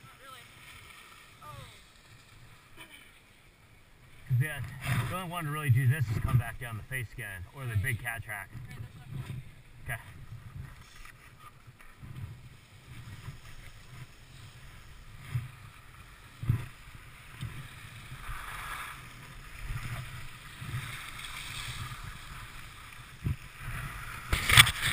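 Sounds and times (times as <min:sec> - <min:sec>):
skis sliding on snow: 0:00.0 - 0:03.4, 0:04.1 - 0:24.9.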